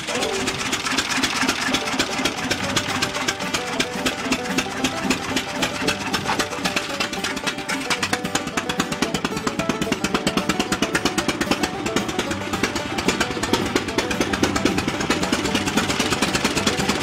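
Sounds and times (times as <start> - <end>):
tractor engine running: 0.0 - 17.0
sharp exhaust pops: 0.1 - 17.0.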